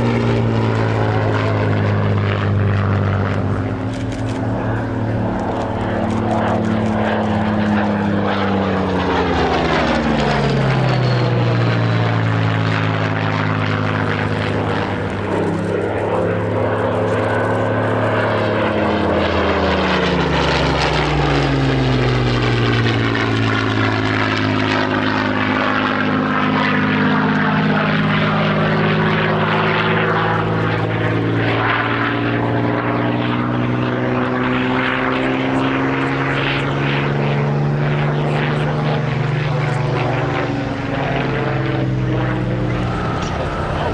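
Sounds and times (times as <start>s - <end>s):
propeller aircraft flying past: 0.0s - 43.9s.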